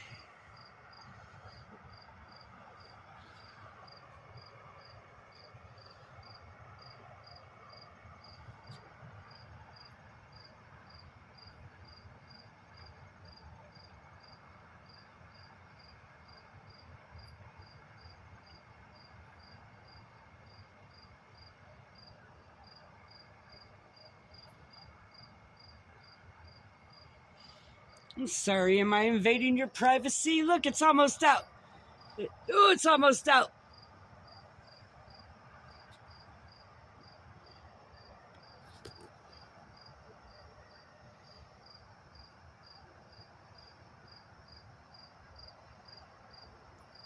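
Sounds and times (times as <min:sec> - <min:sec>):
cricket chirping: 0:00.0 - 0:47.0.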